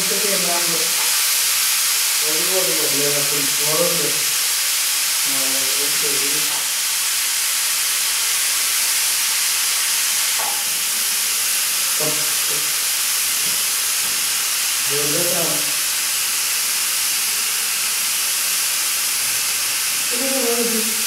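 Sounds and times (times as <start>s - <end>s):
pressure cookers hissing steam: 0.0s - 21.0s.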